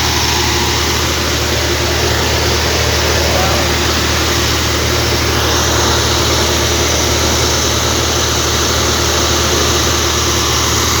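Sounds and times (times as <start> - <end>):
drilling rig engine humming: 0.0 - 11.0.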